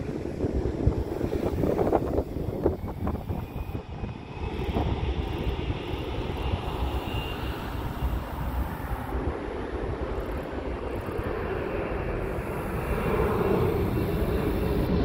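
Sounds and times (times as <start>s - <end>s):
jet engines rumbling: 0.0s - 15.0s
faint high whine: 0.9s - 15.0s.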